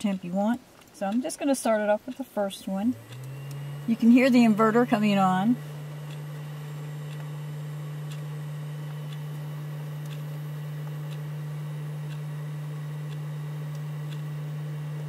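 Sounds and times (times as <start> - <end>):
faint ticking: 0.0 - 15.0
power inverter humming: 0.0 - 15.0.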